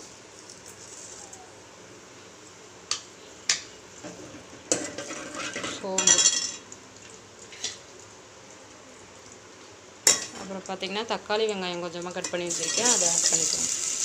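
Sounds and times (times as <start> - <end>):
frying sizzle: 0.0 - 14.0.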